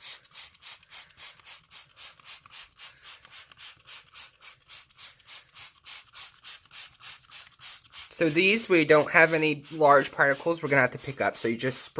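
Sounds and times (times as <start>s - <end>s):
spray bottle squirts: 0.0s - 11.6s.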